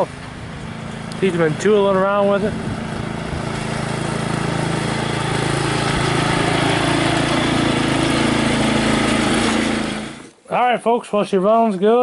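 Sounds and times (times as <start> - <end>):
mower engine running: 0.0 - 10.4.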